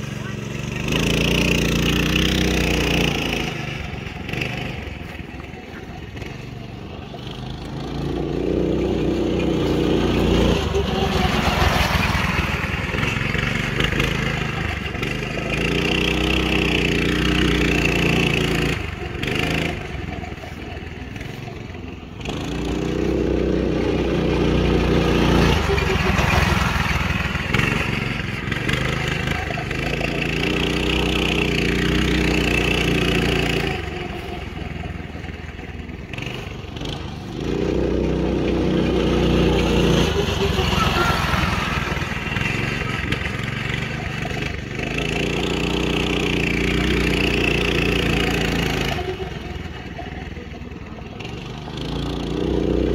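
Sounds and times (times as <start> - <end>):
buggy engine revving: 0.0 - 52.9.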